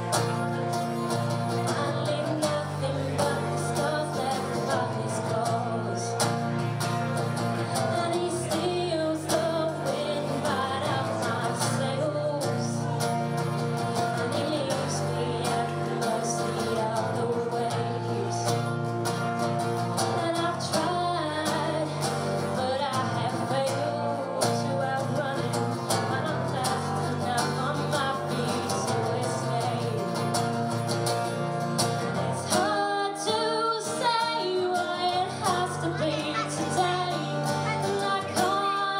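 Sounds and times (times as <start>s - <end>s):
woman singing: 0.0s - 30.8s, 32.0s - 38.9s
strummed acoustic guitar: 0.0s - 38.9s.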